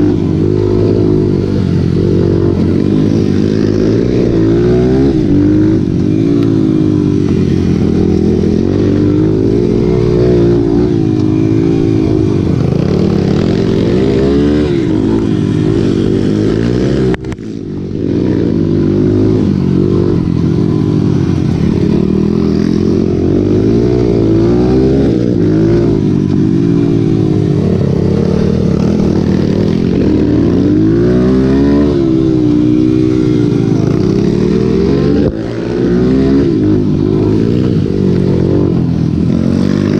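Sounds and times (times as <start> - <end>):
motorcycle engines racing: 0.0 - 39.9.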